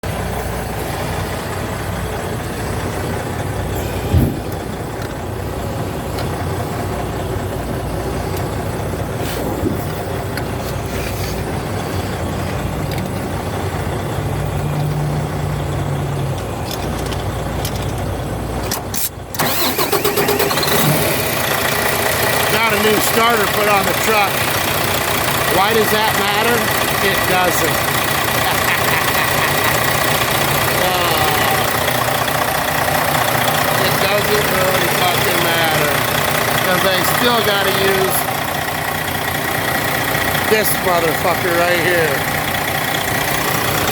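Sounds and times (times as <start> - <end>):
diesel engine cranking on starter: 0.0 - 43.9
engine running: 0.0 - 43.9.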